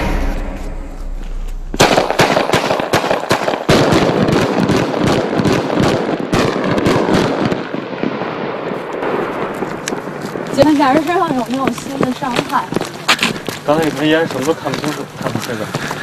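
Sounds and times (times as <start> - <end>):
firework bangs and crackling bursts: 1.7 - 16.0.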